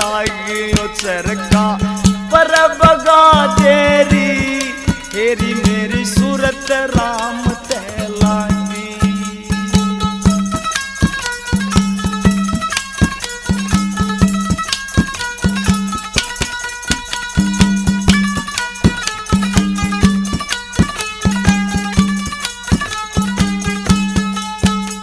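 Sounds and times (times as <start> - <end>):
fast steady drum beat: 0.0 - 25.0.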